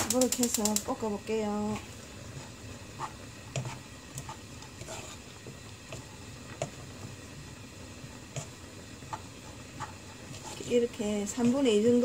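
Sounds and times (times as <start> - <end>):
spatula scraping frying pan: 1.6 - 12.0.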